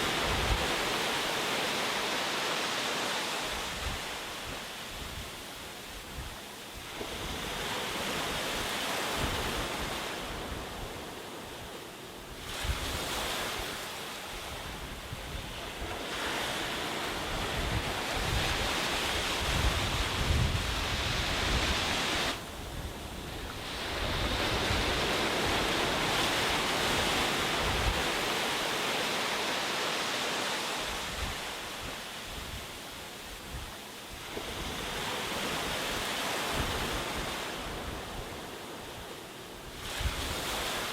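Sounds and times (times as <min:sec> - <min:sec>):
wind rumbling on microphone: 0:00.0 - 0:01.4, 0:03.4 - 0:28.7, 0:30.8 - 0:40.9
sea waves breaking: 0:00.0 - 0:40.9.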